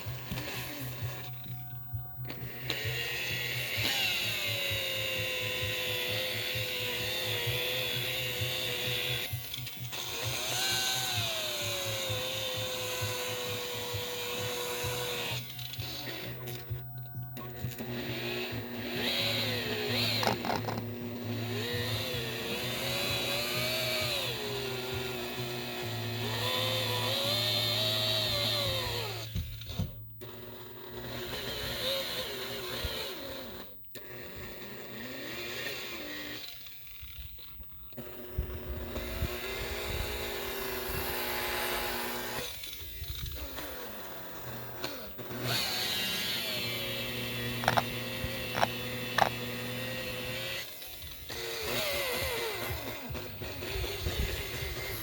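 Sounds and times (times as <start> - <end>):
electric buffer running: 0.0 - 55.0.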